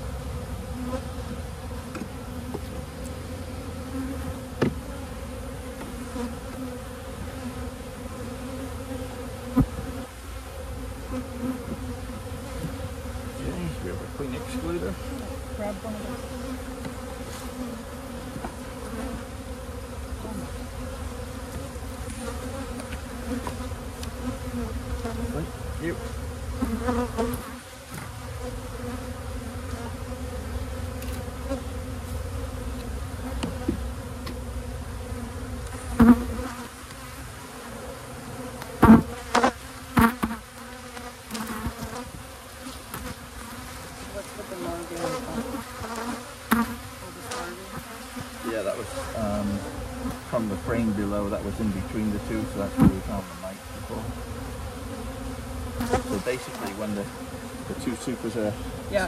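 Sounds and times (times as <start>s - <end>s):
honey bees humming: 0.0s - 59.0s.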